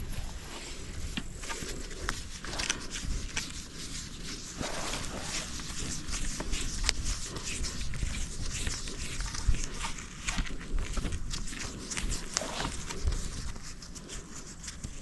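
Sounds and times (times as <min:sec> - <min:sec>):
rope scraping on wood: 0:00.0 - 0:13.5
wind rumble on microphone: 0:00.0 - 0:13.8.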